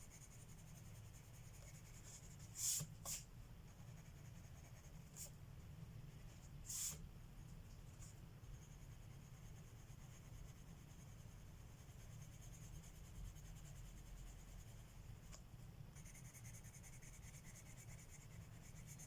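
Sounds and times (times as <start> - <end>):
pencil scratching on paper: 0.0 - 5.4, 7.9 - 15.3, 15.9 - 19.0
faint low hum: 0.0 - 19.0.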